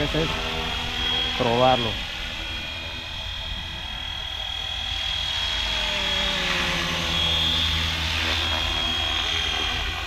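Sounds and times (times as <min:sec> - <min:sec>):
rc helicopter whine: 0:00.0 - 0:10.0.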